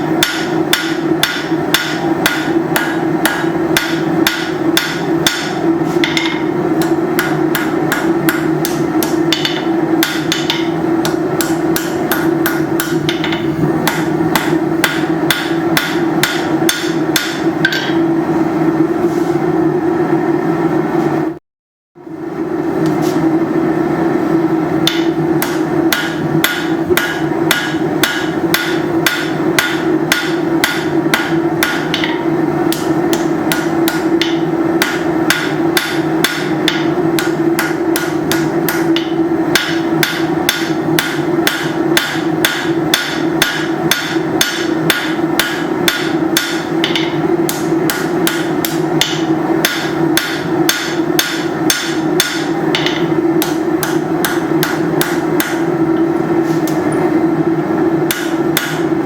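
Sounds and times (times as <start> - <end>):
hammer striking hot steel on anvil: 0.0 - 18.1, 24.8 - 55.8, 58.0 - 59.0
steady low hum: 0.0 - 21.4, 22.0 - 59.0.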